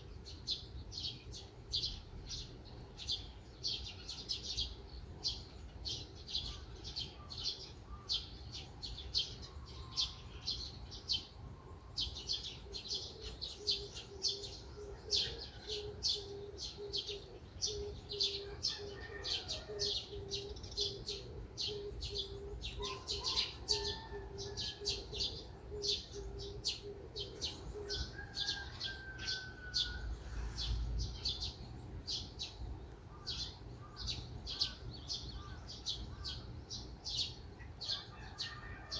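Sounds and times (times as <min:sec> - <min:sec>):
songbirds twittering: 0:00.0 - 0:38.9.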